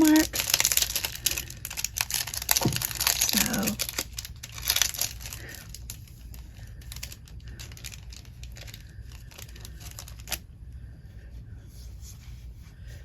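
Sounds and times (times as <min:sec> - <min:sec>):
plastic crinkling: 0:00.0 - 0:10.4.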